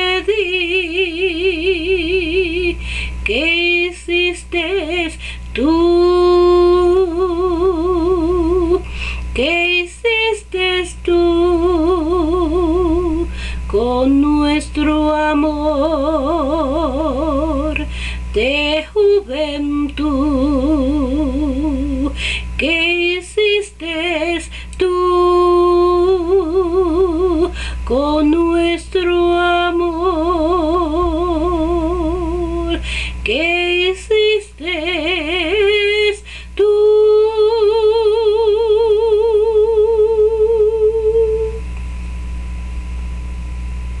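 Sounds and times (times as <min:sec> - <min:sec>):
woman singing wordlessly: 0:00.0 - 0:41.7.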